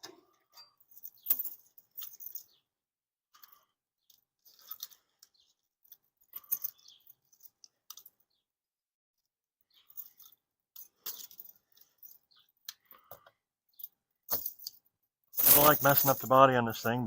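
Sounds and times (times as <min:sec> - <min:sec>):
metal strapping clicking and rattling: 0:00.0 - 0:02.6, 0:03.3 - 0:08.3, 0:09.7 - 0:16.9.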